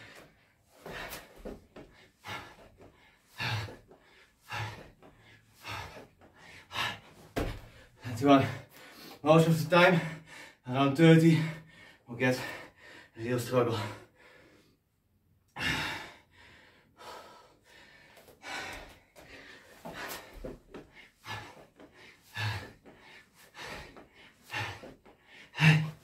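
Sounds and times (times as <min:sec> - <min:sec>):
man breathing with exertion: 0:00.0 - 0:09.2, 0:11.4 - 0:26.0.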